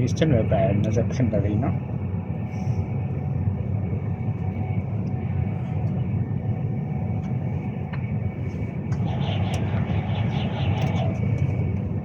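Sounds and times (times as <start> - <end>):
electric train rumble from inside: 0.0 - 12.0.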